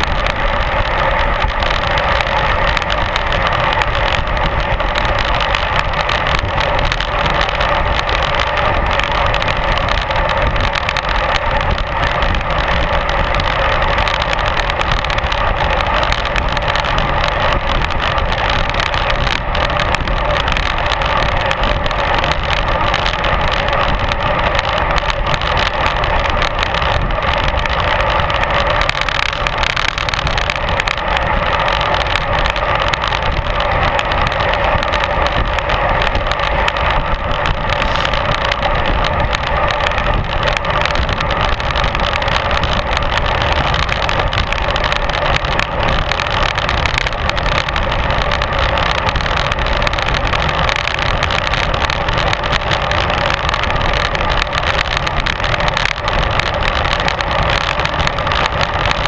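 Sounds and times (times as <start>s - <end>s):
bike tyres rumbling on tarmac: 0.0s - 59.0s
wind rush on microphone: 0.0s - 59.0s.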